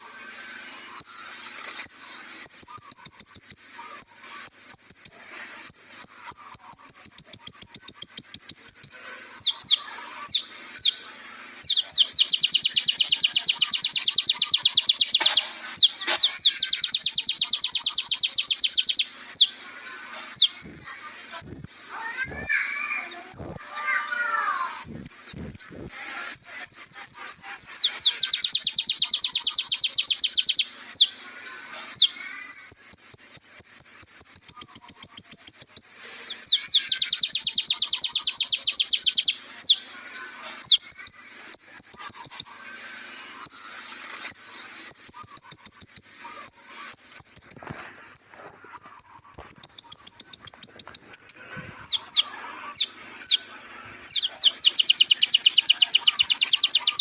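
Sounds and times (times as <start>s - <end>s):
bird high-pitched trills: 0.0s - 57.0s.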